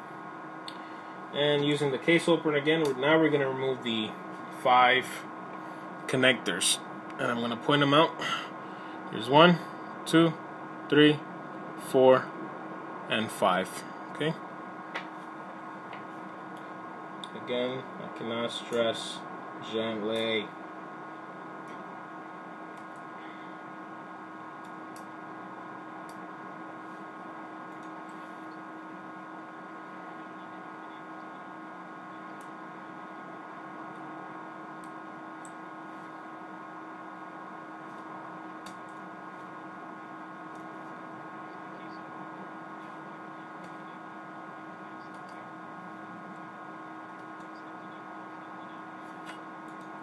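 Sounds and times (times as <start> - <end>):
steady electrical hum: 0.0 - 50.0.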